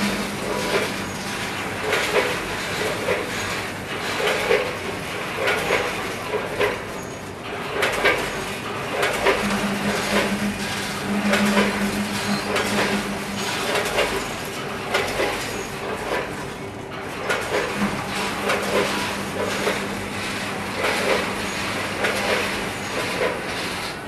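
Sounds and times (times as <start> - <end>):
clattering metal machine parts: 0.0 - 24.0
steady machine hum: 0.0 - 24.0.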